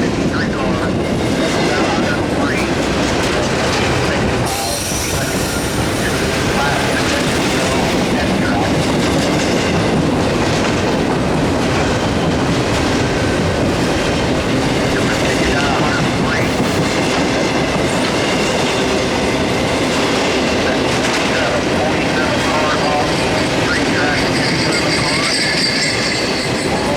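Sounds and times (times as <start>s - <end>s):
freight train wheels clattering on rails: 0.0s - 26.9s.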